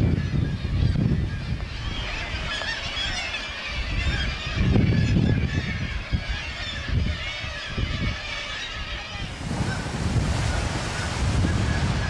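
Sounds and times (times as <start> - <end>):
seabird colony calling: 0.0 - 12.0
wind rumble on microphone: 0.0 - 12.0.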